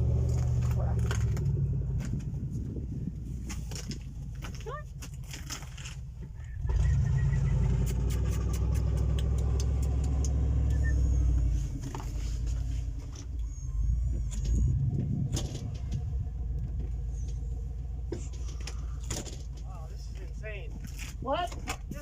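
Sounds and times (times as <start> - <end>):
vehicle engine running and revving: 0.0 - 22.0.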